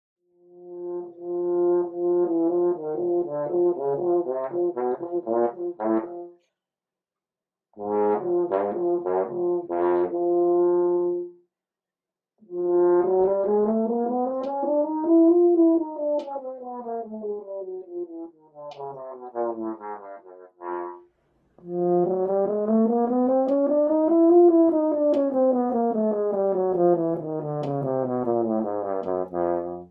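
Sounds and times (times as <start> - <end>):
solo french horn: 0.4 - 6.3, 7.8 - 11.3, 12.4 - 29.9.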